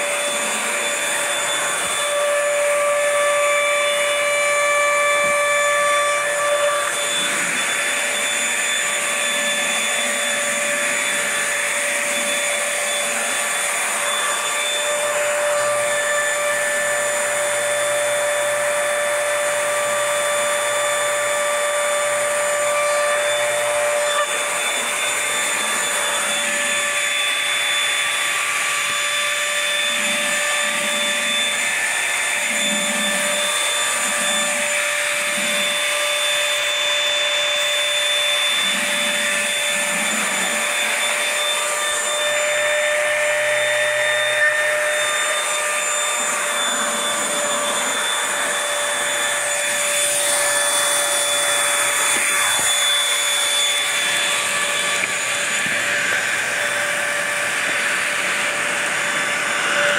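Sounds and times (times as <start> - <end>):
stick vacuum running: 0.0 - 59.9.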